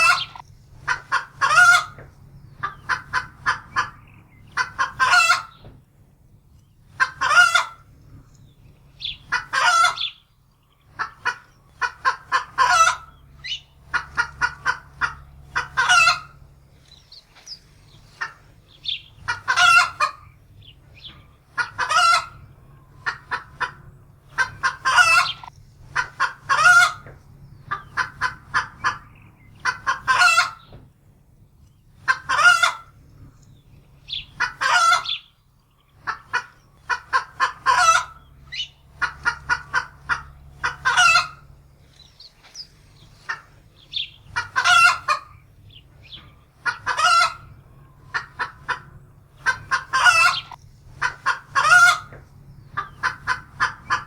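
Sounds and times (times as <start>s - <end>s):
hen cackling in alarm: 0.0s - 5.6s, 6.9s - 7.9s, 8.9s - 30.7s, 32.0s - 33.0s, 34.0s - 54.0s.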